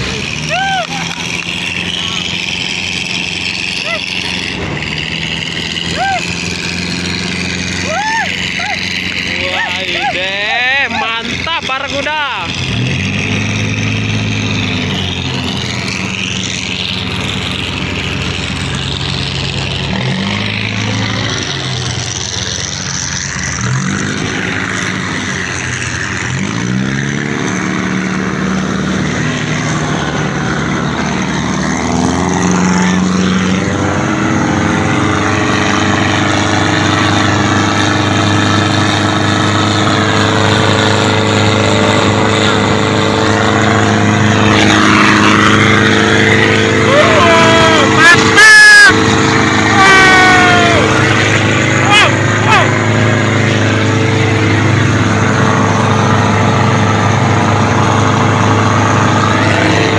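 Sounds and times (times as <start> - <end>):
motorboat engines running: 0.0 - 59.9
water rushing from hull: 0.0 - 59.9.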